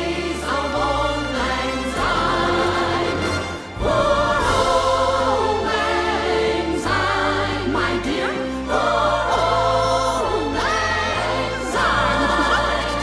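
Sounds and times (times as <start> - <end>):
choir singing held notes: 0.0 - 13.0
orchestral music with bass line: 0.0 - 13.0.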